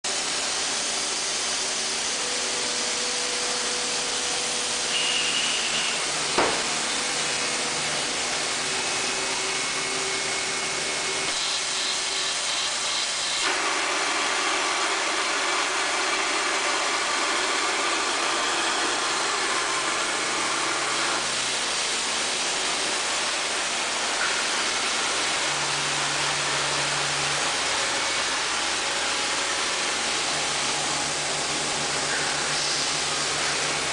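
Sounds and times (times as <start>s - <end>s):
lathe running with mechanical hiss: 0.1s - 33.9s.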